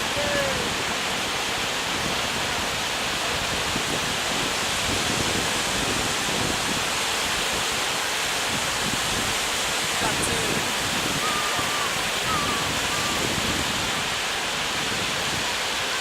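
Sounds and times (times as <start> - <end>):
sea surf rushing: 0.0 - 16.0.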